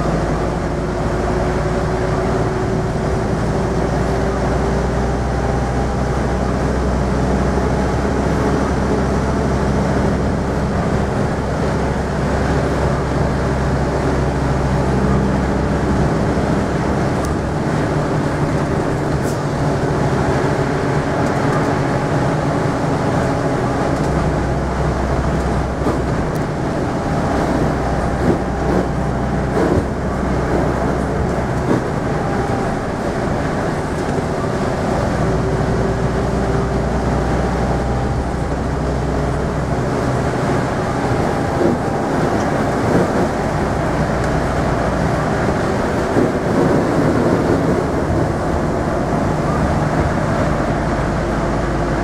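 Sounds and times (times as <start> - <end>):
bus diesel engine droning: 0.0 - 52.0.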